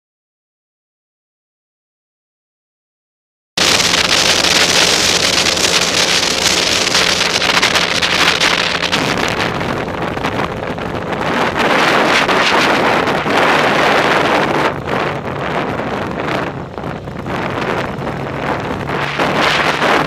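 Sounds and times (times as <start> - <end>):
motorcycle engine running: 3.6 - 20.0
wind rush over microphone: 3.6 - 20.0.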